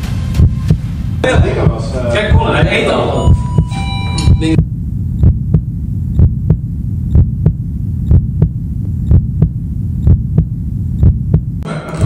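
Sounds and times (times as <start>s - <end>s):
heartbeat thumps: 0.0s - 11.6s
steady low hum: 0.0s - 11.8s.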